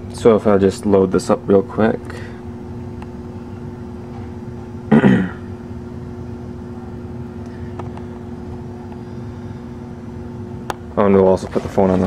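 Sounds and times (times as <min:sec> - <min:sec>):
low machine hum with fixed tones: 0:00.0 - 0:12.0.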